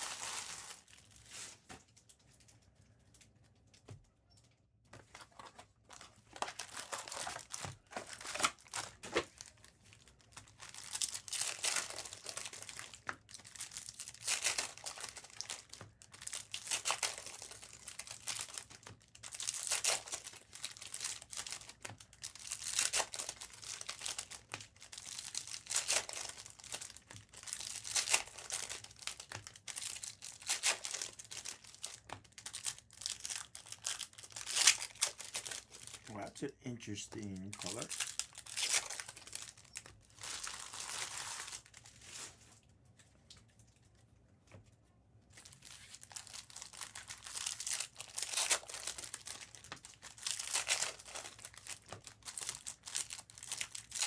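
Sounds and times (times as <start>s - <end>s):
wrappers tearing and crinkling: 0.0s - 2.4s, 5.1s - 42.6s, 45.3s - 54.0s.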